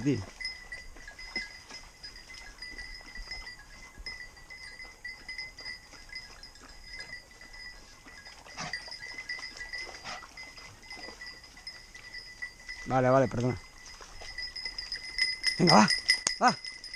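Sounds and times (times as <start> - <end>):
small bells tinkling: 0.0 - 16.9.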